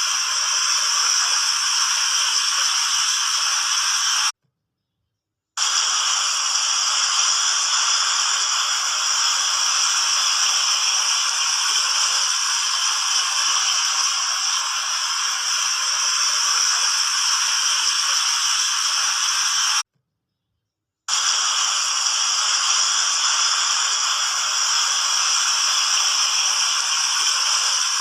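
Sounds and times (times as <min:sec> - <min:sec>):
fountain water hissing: 0:00.0 - 0:04.3, 0:05.6 - 0:19.8, 0:21.1 - 0:28.0.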